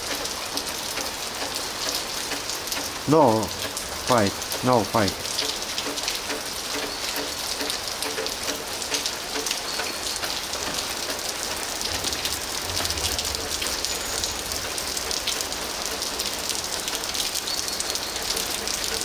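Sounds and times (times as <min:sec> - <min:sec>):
rain falling on concrete: 0:00.0 - 0:19.0.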